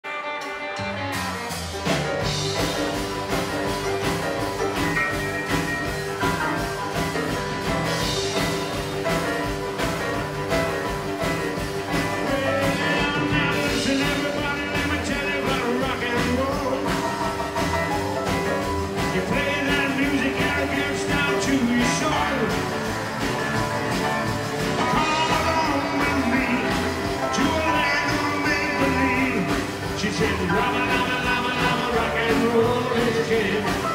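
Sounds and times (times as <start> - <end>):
drum kit: 0.0 - 33.9
guitar: 0.0 - 33.9
keyboard: 0.1 - 33.9
upright bass: 0.8 - 33.9.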